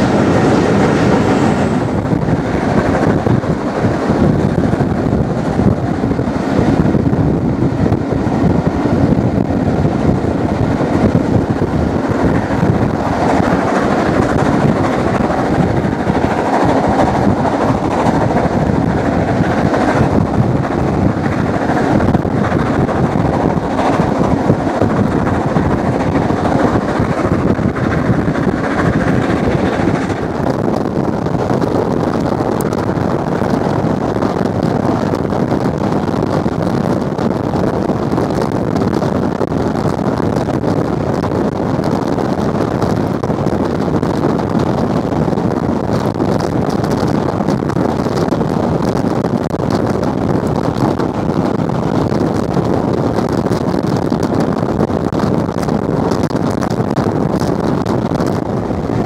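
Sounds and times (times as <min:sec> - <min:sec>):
steam train rushing: 0:00.0 - 0:59.0
wind buffeting microphone: 0:00.0 - 0:59.0.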